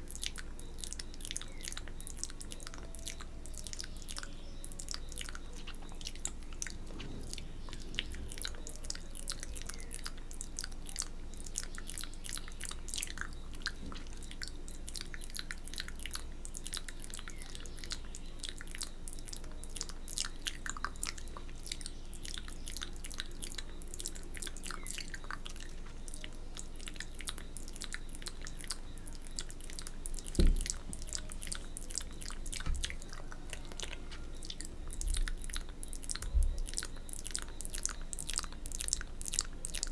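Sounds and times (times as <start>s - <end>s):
wet mouth clicks and smacks: 0.0s - 39.9s.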